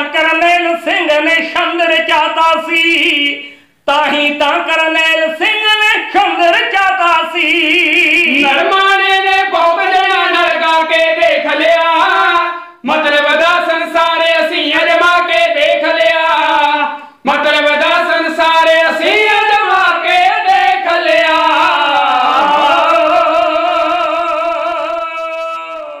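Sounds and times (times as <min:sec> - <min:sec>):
men singing unaccompanied: 0:00.0 - 0:26.0.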